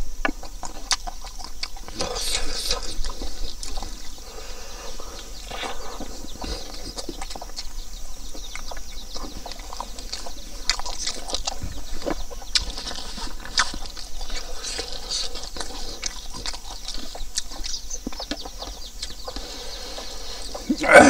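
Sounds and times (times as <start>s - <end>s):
man chewing and lip-smacking: 0.0s - 21.0s.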